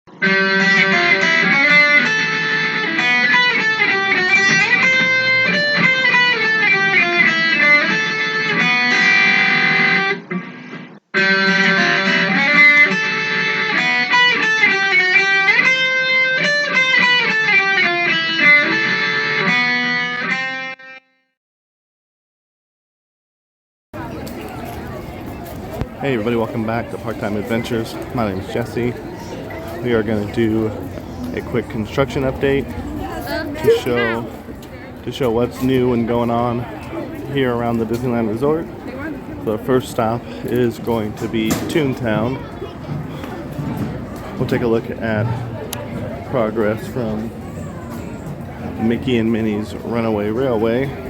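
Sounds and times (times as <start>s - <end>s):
plucked electric guitar music: 0.1s - 21.2s, 24.0s - 51.0s.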